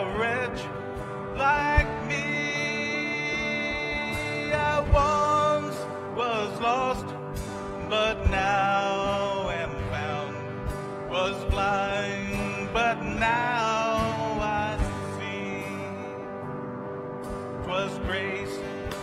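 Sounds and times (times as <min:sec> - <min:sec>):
man singing: 0:00.0 - 0:16.5, 0:17.5 - 0:19.0
acoustic guitar: 0:00.0 - 0:19.0
electric guitar: 0:00.0 - 0:19.0.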